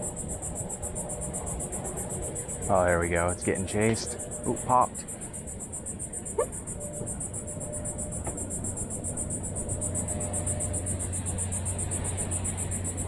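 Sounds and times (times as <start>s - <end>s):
insects chirping: 0.0s - 13.0s
low steady hum: 0.0s - 13.0s.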